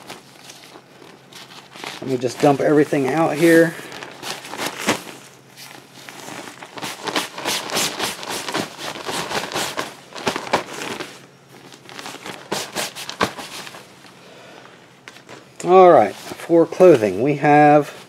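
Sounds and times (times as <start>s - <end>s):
fabric and nylon rustling: 0.0s - 18.0s.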